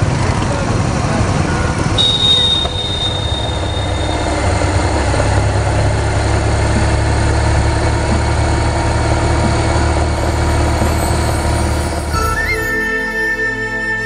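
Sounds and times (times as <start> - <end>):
motorcycle engine droning: 0.0 - 12.2.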